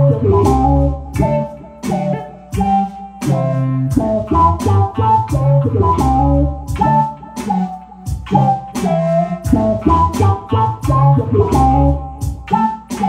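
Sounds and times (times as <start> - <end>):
electric bass notes: 0.0 - 13.0
plucked electric guitar notes: 0.0 - 13.0.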